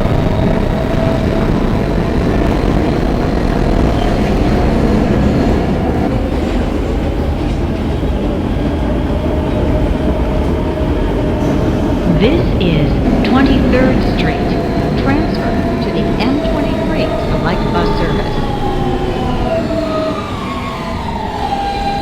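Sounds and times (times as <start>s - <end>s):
subway wheels rumbling on track: 0.0s - 22.0s.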